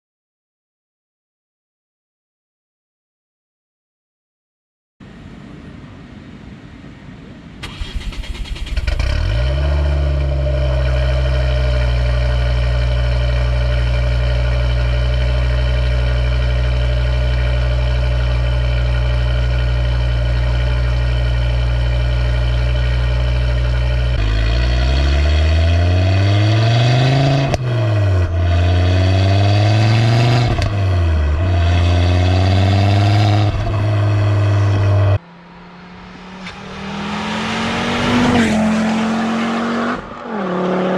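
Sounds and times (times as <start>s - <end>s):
car engine starting and idling: 5.0s - 40.3s
car engine revving: 7.6s - 40.9s.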